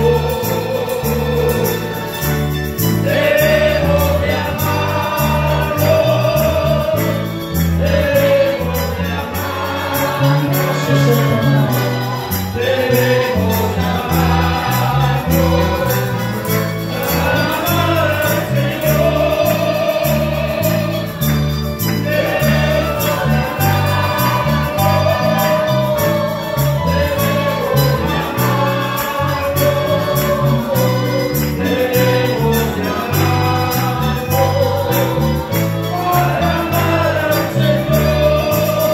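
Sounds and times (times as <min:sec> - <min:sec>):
strummed guitars: 0:00.0 - 0:38.9
voices singing a hymn: 0:00.0 - 0:38.9.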